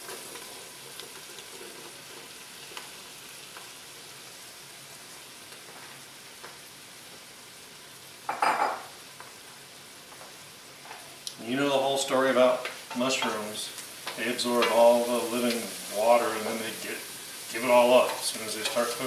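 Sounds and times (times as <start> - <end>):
mushrooms sizzling in hot oil: 0.0 - 19.0.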